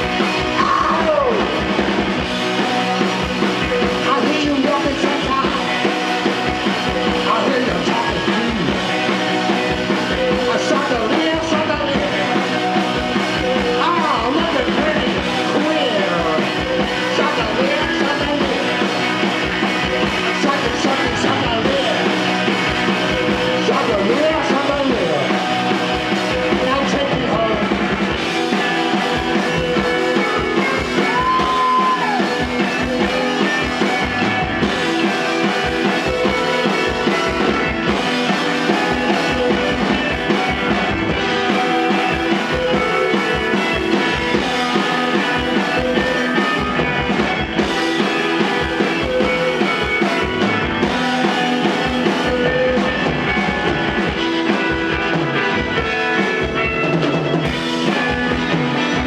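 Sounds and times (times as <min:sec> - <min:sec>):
drum kit beat: 0:00.0 - 0:59.0
electric guitars: 0:00.0 - 0:59.0.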